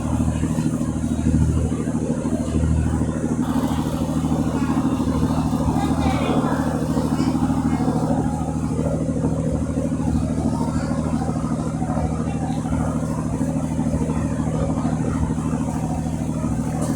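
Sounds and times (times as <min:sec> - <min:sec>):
boat engine droning: 0:00.0 - 0:16.9.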